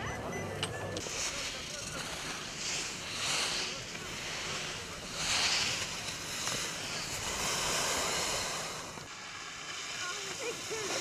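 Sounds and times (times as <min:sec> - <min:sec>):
skis hissing over snow: 0:01.0 - 0:11.0.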